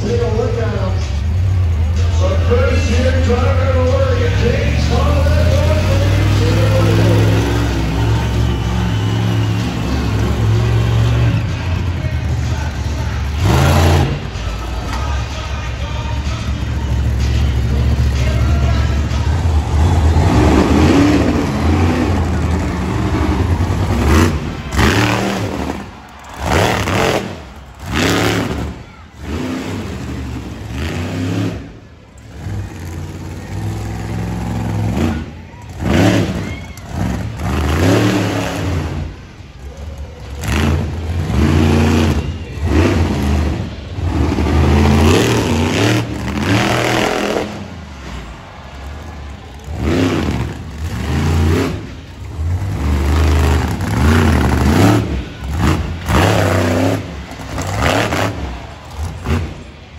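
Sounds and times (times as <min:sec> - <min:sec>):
truck engine revving hard: 0:00.0 - 0:39.6, 0:40.2 - 0:59.9.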